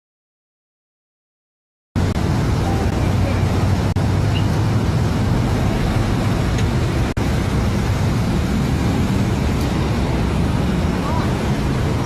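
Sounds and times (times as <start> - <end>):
road traffic noise: 2.0 - 12.0.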